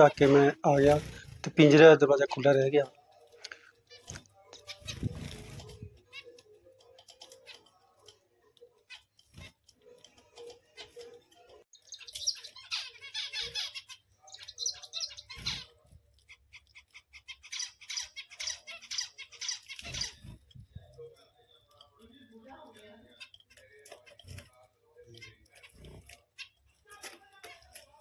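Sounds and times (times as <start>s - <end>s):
finches chattering: 0.0s - 28.0s.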